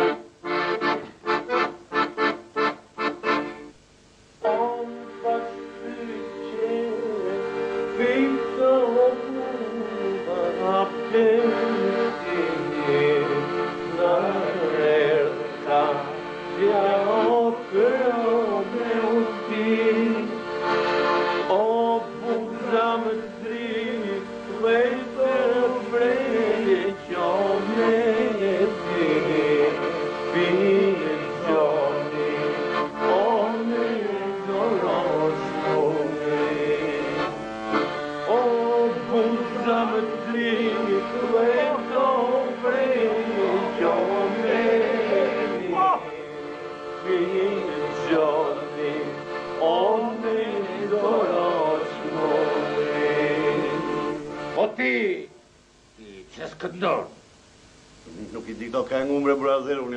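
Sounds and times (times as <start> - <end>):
accordion: 0.0 - 55.9
man singing: 4.4 - 20.7, 21.4 - 55.4, 58.1 - 59.9.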